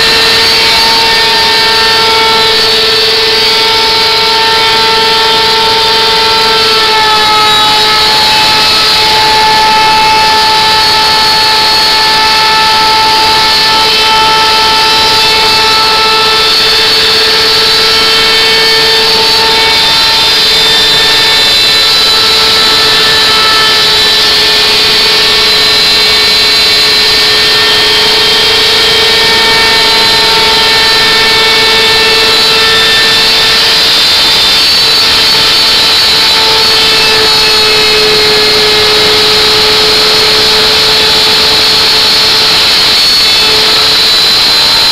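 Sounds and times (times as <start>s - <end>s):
router motor high whine: 0.0s - 44.9s.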